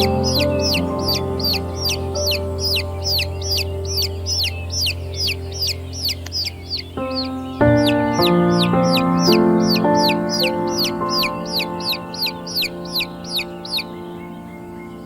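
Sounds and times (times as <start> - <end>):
chicks peeping: 0.0 - 15.0
soft background music: 0.0 - 15.0.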